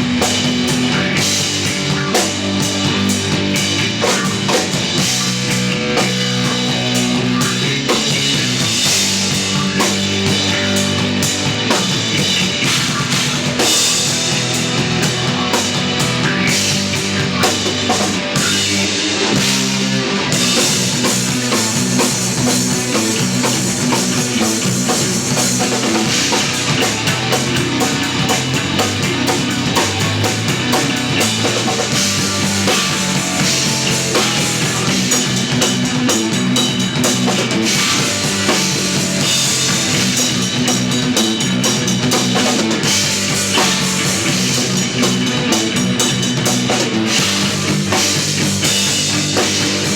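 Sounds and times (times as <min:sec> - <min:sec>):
busy drumming and cymbals: 0:00.0 - 0:49.9
electric bass notes: 0:00.0 - 0:49.9
electric guitar: 0:00.0 - 0:49.9.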